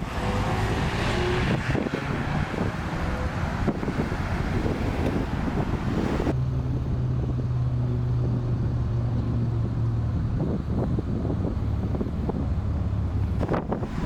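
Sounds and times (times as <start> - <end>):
low engine hum: 0.0 - 14.0
wind rumbling on microphone: 0.0 - 14.0.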